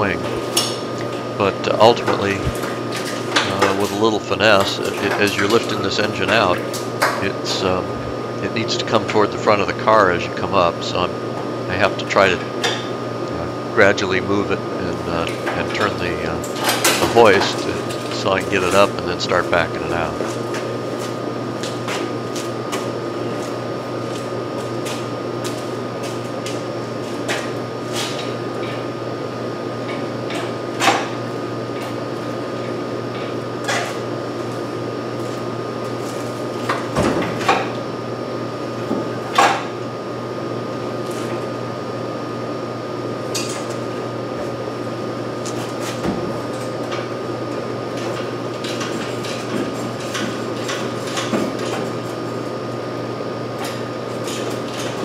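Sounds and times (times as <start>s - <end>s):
steady droning hum: 0.0s - 55.0s.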